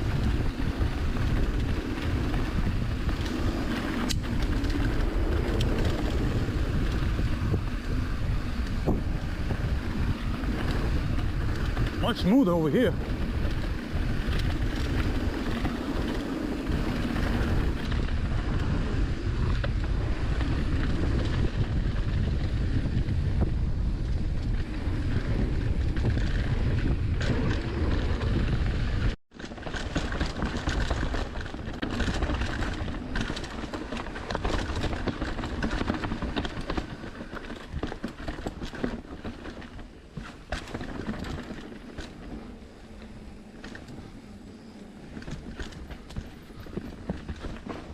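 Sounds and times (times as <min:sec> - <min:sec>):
bike rattling over rough ground: 0:00.0 - 0:47.9
wind buffeting microphone: 0:00.0 - 0:47.9.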